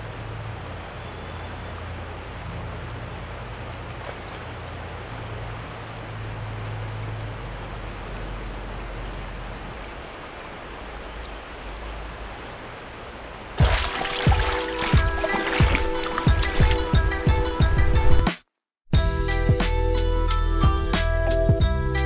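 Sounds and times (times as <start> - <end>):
fast stream rushing: 0.0 - 18.3.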